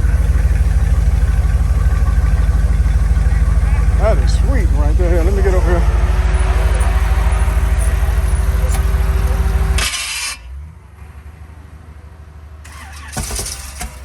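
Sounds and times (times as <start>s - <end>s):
car engine running loudly: 0.0s - 11.3s.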